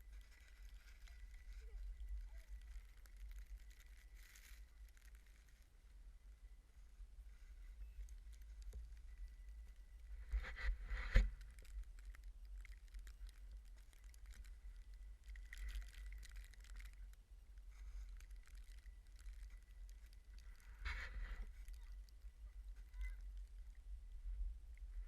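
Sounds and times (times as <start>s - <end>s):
crackles and rustles: 0.0s - 25.0s.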